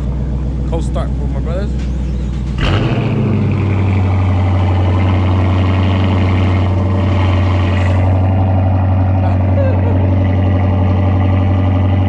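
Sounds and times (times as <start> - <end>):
another engine idling: 0.0 - 12.0
car engine starting and idling: 0.0 - 12.0.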